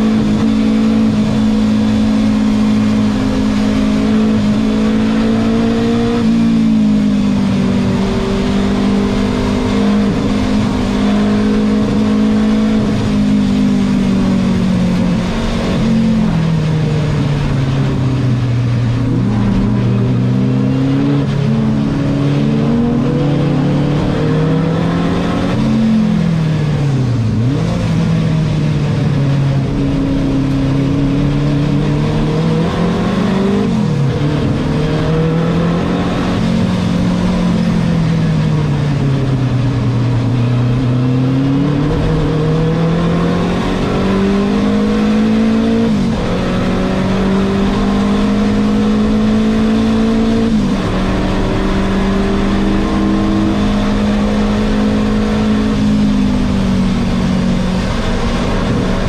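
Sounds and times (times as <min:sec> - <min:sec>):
race car engine from cabin: 0:00.0 - 0:59.0.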